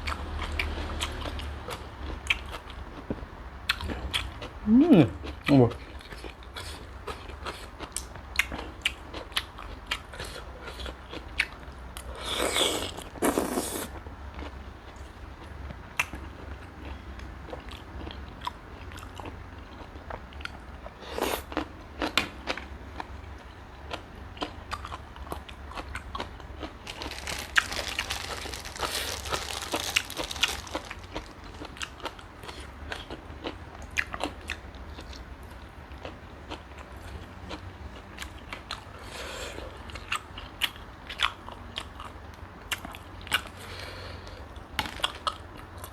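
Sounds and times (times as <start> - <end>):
person chewing prawn: 0.0 - 45.9.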